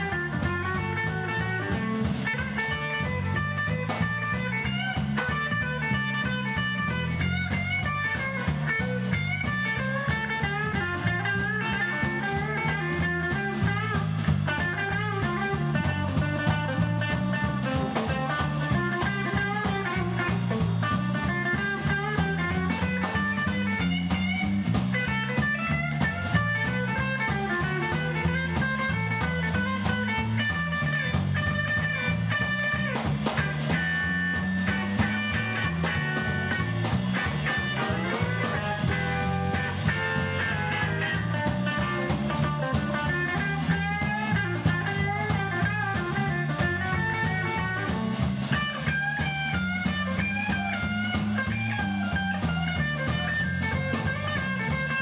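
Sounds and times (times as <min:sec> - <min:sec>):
bass line: 0:00.0 - 0:55.0
drums: 0:00.0 - 0:55.0
lead guitar with bent notes: 0:00.0 - 0:55.0.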